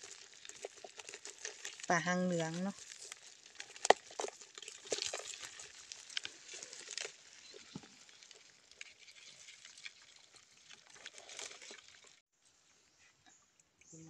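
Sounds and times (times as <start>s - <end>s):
fish and crabs flapping in bucket: 0.0s - 12.2s.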